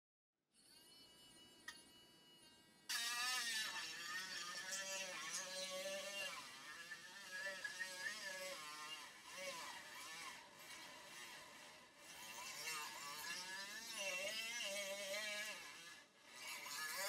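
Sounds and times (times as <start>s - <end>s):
dentist's drill whining: 0.6s - 17.0s.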